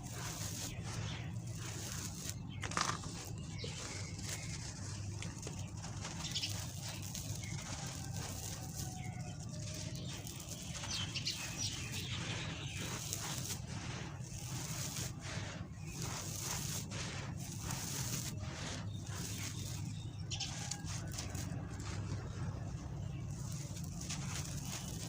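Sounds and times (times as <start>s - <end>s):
sand-cement crumbling: 0.0s - 25.0s.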